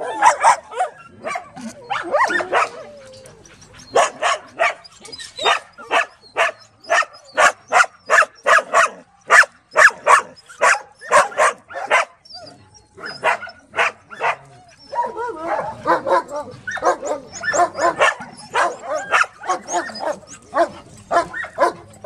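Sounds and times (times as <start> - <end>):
dogs barking: 0.0 - 12.2, 12.9 - 22.0.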